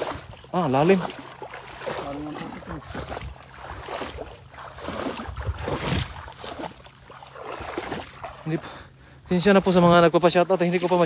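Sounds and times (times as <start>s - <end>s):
wading through shallow water: 0.0s - 11.0s.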